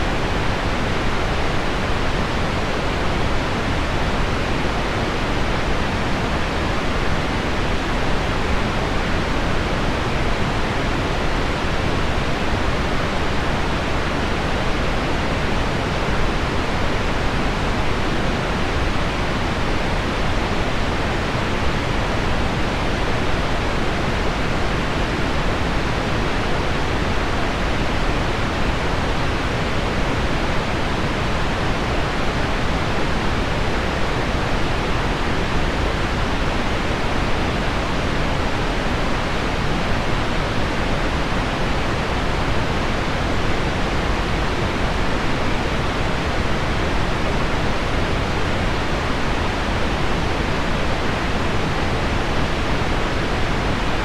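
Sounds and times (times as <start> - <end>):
deep pink noise hiss: 0.0 - 54.0.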